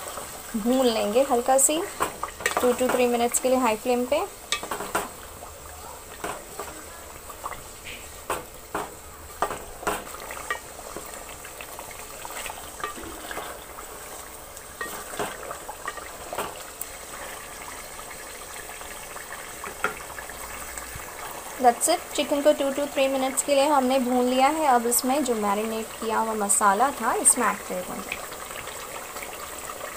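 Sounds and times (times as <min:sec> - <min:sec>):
chicken frying in hot oil: 0:00.0 - 0:29.9.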